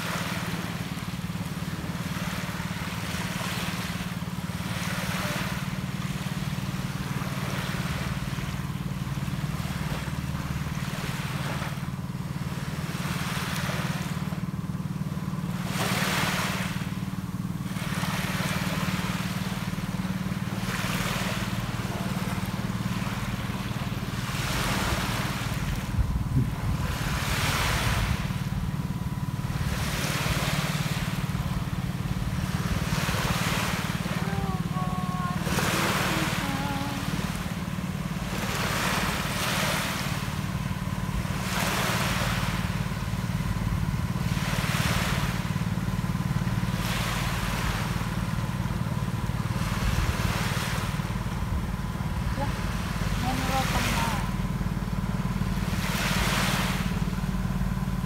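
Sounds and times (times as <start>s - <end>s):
sea waves breaking on beach: 0.0s - 58.0s
steady low rumble: 0.0s - 58.0s.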